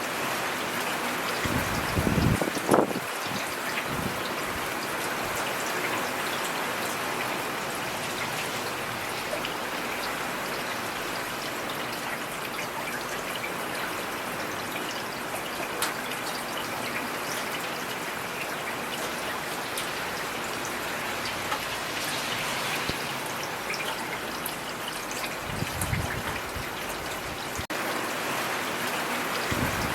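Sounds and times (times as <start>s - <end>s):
steady rainfall: 0.0s - 29.9s.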